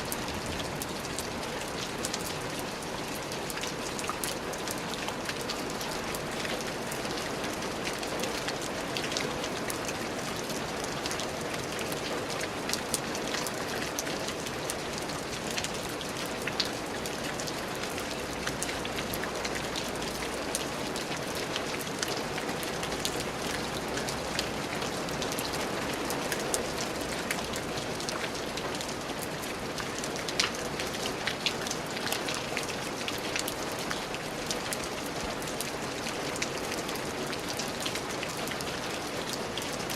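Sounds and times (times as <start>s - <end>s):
steady rain on a surface: 0.0s - 39.9s.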